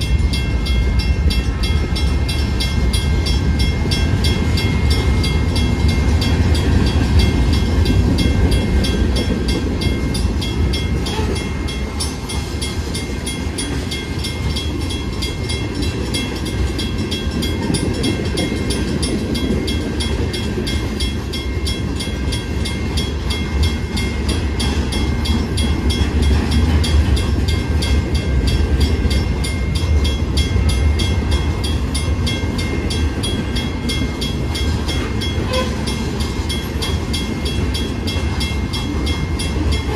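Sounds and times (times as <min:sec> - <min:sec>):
crossing bell ringing: 0:00.0 - 0:39.9
freight train rumbling: 0:00.0 - 0:39.9.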